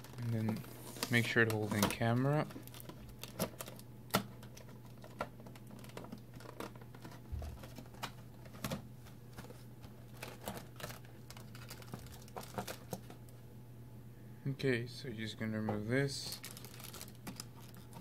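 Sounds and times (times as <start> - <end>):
hands handling cardboard and plastic: 0.0 - 13.3, 15.7 - 18.0.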